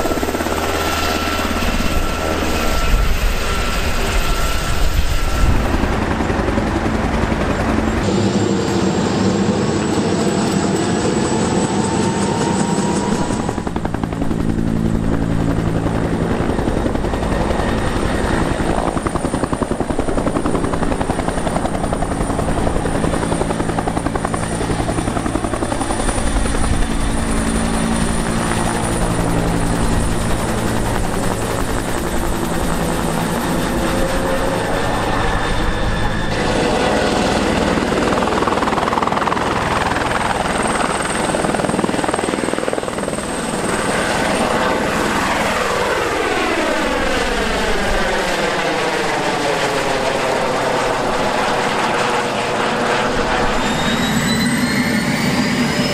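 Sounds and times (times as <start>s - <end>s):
helicopter rotor and turbine: 0.0s - 55.9s
helicopters passing overhead: 0.0s - 55.9s.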